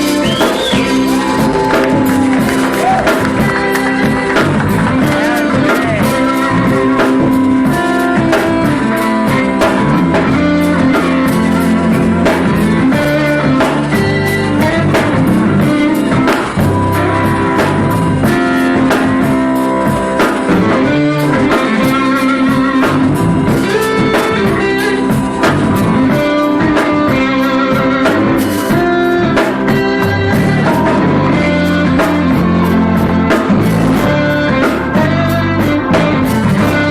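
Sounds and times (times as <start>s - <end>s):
blues band playing: 0.0s - 36.9s
drum kit beat: 0.0s - 36.9s
lead guitar: 0.0s - 36.9s.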